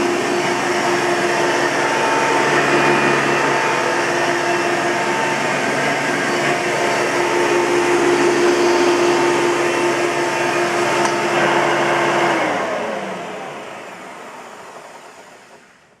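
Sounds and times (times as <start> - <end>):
vacuum cleaner motor humming: 0.0 - 16.0.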